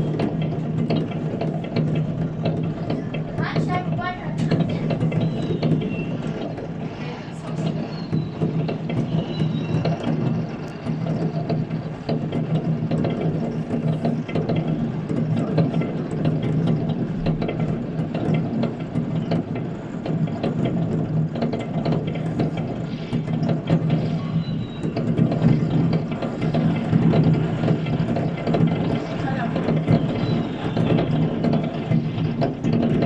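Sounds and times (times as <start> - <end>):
firecrackers popping and banging: 0.0 - 33.0
steady low hum: 0.0 - 33.0.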